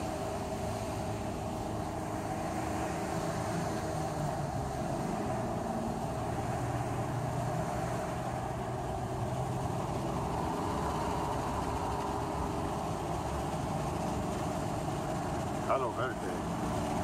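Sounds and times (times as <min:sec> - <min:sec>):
engine and road noise in truck cab: 0:00.0 - 0:17.0.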